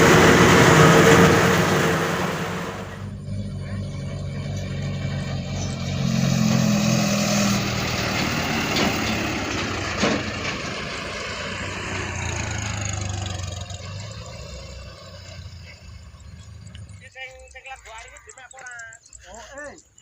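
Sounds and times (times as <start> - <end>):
diesel engine revving: 0.0 - 17.6.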